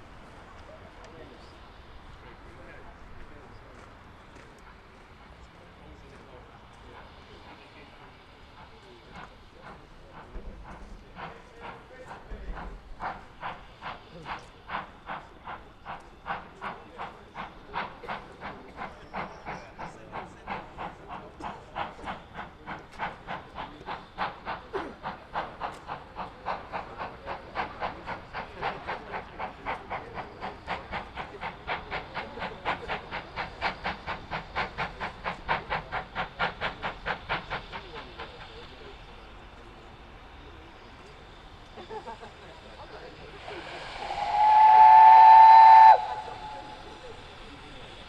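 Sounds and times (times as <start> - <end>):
steam locomotive chuffing: 0.0 - 48.0.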